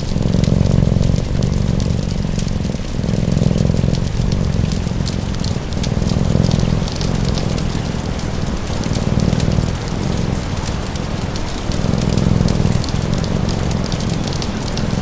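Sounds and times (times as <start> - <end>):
cat purring: 0.0 - 15.0
crackling wood fire: 0.0 - 15.0
steady rain: 0.0 - 15.0.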